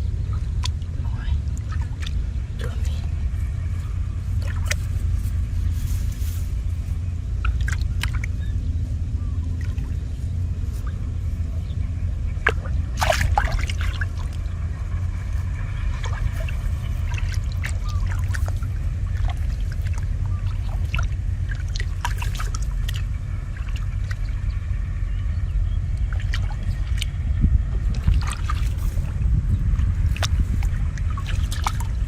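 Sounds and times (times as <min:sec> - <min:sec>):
steady low rumble: 0:00.0 - 0:32.0
shallow water splashing and trickling: 0:00.3 - 0:08.7, 0:09.3 - 0:32.0.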